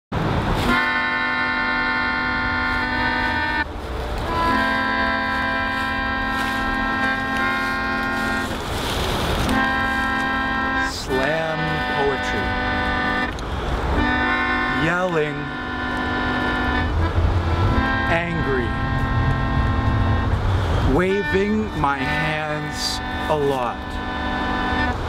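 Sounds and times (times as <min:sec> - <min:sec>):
melodica playing held chords: 0:00.6 - 0:08.7, 0:09.4 - 0:25.0.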